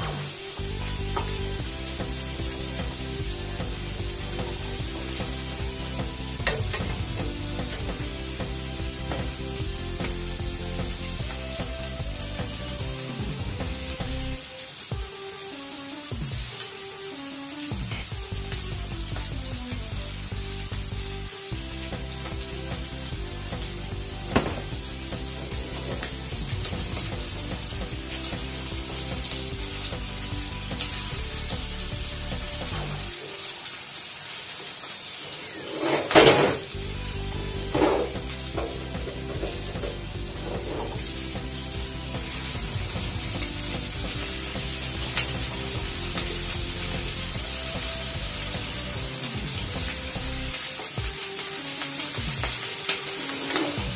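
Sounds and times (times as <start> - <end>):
food sizzling in a frying pan: 0.0 - 53.9.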